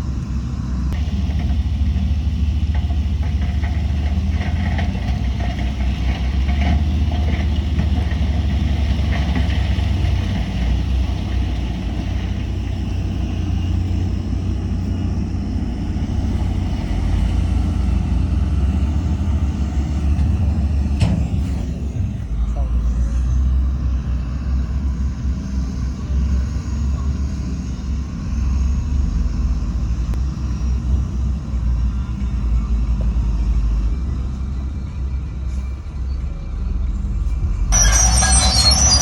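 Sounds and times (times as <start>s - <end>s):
heavy diesel engine rumbling: 0.0s - 39.0s.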